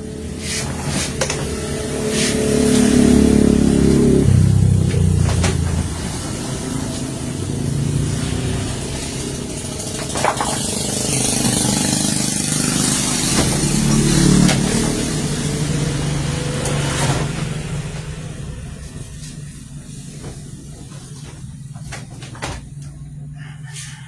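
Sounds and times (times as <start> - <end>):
engine running: 0.0 - 23.4.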